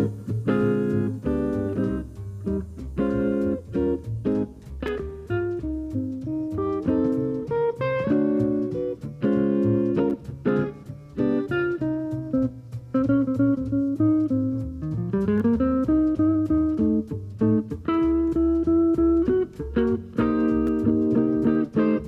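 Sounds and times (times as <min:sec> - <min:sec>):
bass: 0:00.0 - 0:22.0
jazz guitar playing: 0:00.0 - 0:22.0.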